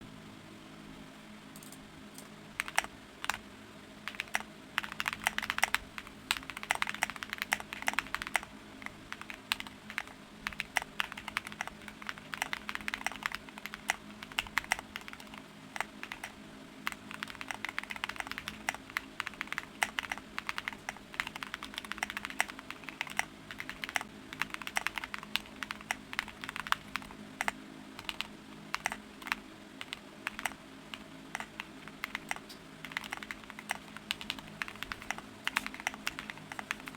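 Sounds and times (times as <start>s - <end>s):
typing on mechanical keyboard: 2.6s - 3.4s, 4.1s - 36.9s.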